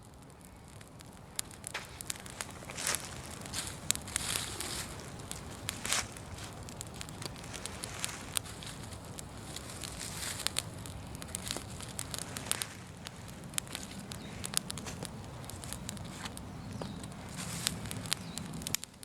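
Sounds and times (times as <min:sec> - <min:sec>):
bonfire crackling and popping: 0:00.0 - 0:19.0
low hiss of burning: 0:00.0 - 0:19.0.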